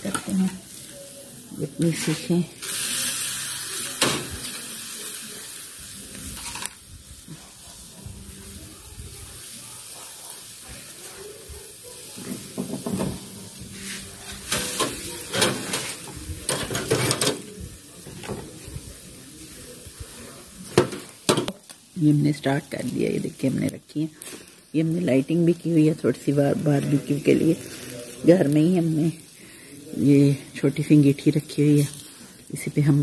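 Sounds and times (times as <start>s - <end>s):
meat sizzling over charcoal: 0.0s - 33.0s.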